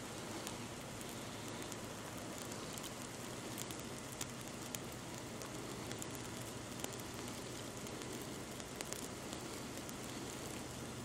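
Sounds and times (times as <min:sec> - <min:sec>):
faint snowfall hiss: 0:00.0 - 0:11.0
snow ticking on surfaces: 0:00.0 - 0:11.0.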